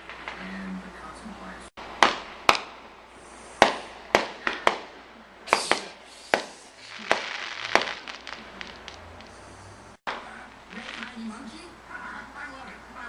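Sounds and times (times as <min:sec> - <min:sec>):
fireworks bangs: 0:00.0 - 0:11.8
fireworks crackling: 0:00.0 - 0:12.0.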